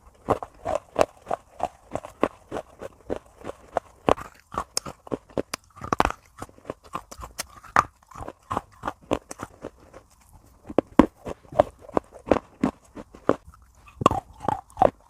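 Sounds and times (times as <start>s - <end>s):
crunchy food being chewed: 0.0s - 15.0s.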